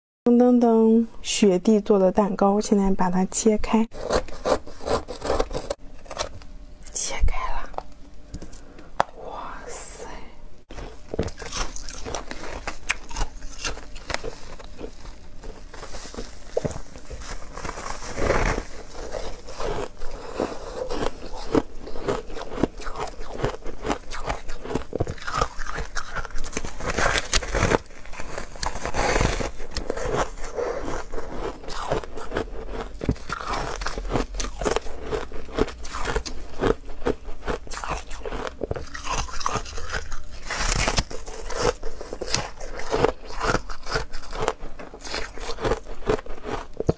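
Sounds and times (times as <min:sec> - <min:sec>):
foam ice being chewed: 0:03.9 - 0:06.4, 0:10.7 - 0:46.9.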